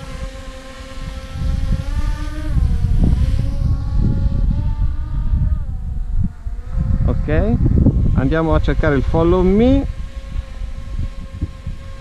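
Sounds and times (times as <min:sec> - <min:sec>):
drone propellers buzzing: 0:00.0 - 0:12.0
wind rumble on microphone: 0:00.0 - 0:12.0.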